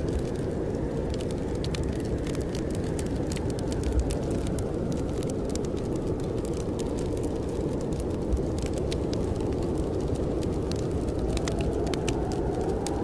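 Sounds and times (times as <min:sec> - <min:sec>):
blizzard wind roar: 0:00.0 - 0:13.0
wood fire crackling: 0:00.0 - 0:13.0.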